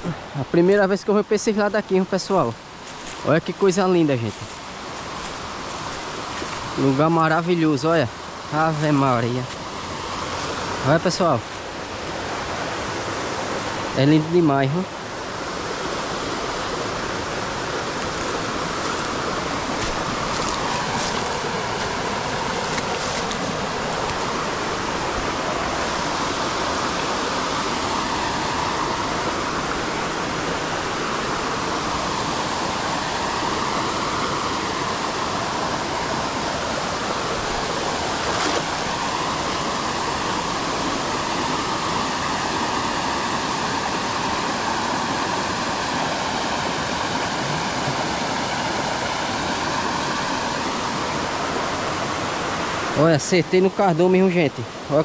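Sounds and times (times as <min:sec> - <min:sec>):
creek water rushing: 0:00.0 - 0:55.0.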